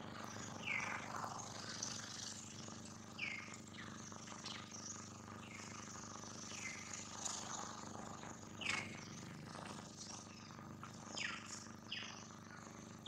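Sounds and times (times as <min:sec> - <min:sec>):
steady low hum: 0:00.0 - 0:13.0
birds chirping: 0:00.2 - 0:02.5, 0:03.1 - 0:13.0.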